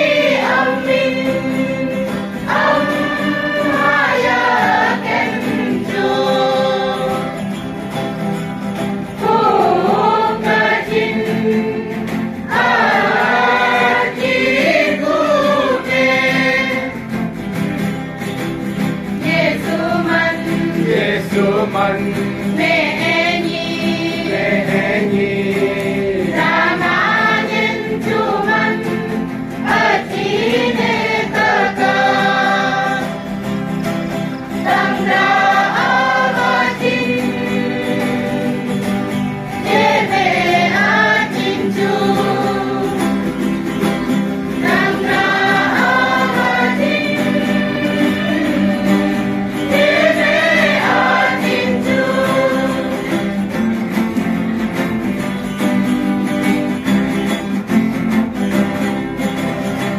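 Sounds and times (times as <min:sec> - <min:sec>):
group singing in chorus: 0:00.0 - 0:55.1
guitar accompaniment: 0:00.0 - 0:59.9.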